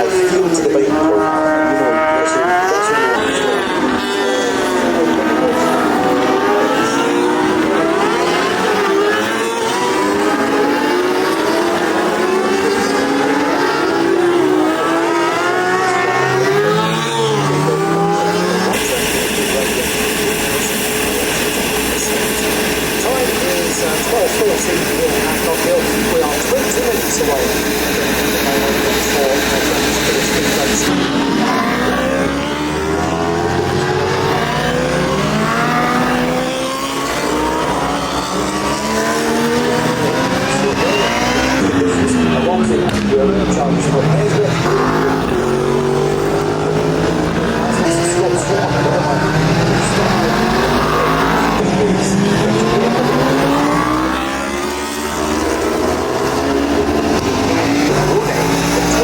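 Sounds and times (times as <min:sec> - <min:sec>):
motorcycle engines revving hard: 0:00.0 - 0:59.0.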